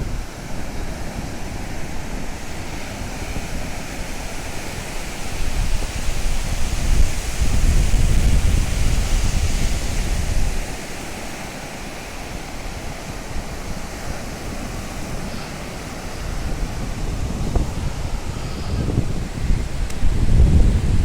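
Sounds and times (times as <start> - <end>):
surf washing on beach: 0.0 - 21.0
wind buffeting microphone: 0.0 - 21.0.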